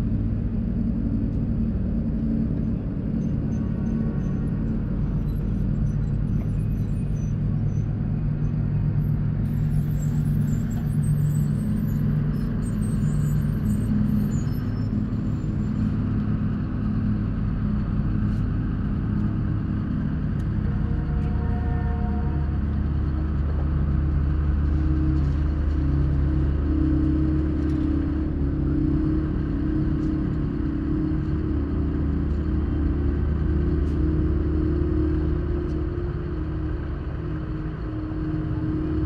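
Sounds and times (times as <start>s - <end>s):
deep droning hum: 0.0s - 39.0s
low rumble: 0.0s - 39.0s.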